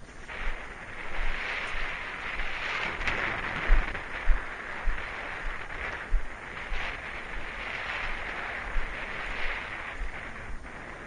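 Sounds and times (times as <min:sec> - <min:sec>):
wind buffeting thumps: 0:00.0 - 0:11.0
wind hissing on microphone: 0:00.0 - 0:11.0.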